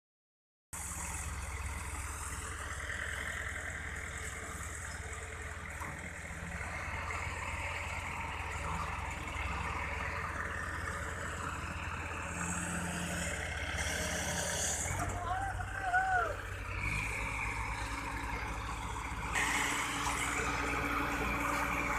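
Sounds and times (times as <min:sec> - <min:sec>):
diesel engine running: 0:00.7 - 0:21.9.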